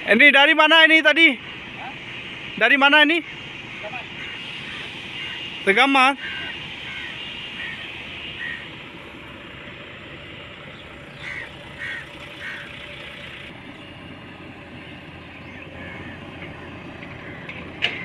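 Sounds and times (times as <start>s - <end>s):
construction machinery engine: 0.0s - 18.0s.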